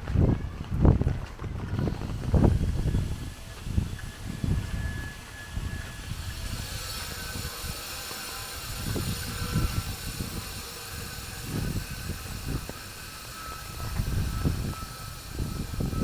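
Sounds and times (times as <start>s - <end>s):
low rumbling: 0.0s - 16.0s.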